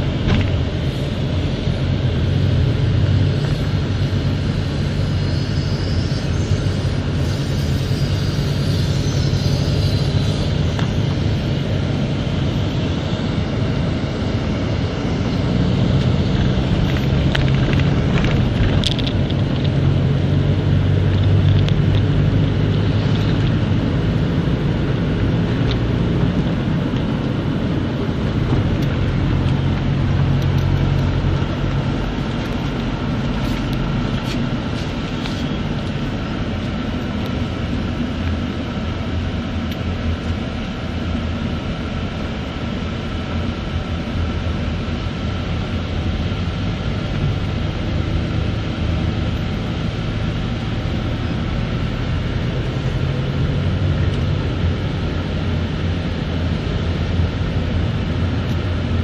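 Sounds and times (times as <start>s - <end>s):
engine hum: 0.0s - 59.0s.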